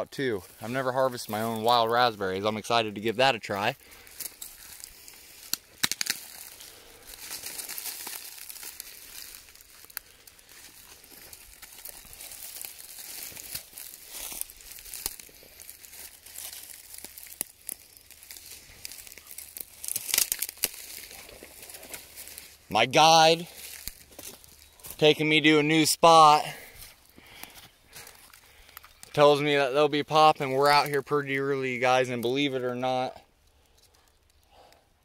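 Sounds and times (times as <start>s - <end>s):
footsteps crunching through dry leaves: 0.4s - 2.7s, 3.4s - 32.0s.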